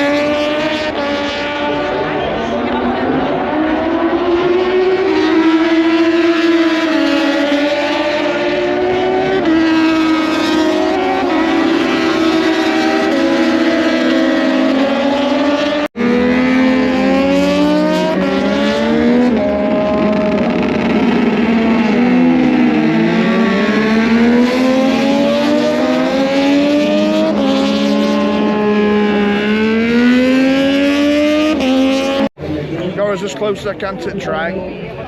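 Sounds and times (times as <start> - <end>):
racing motorcycles engines screaming: 0.0 - 33.0.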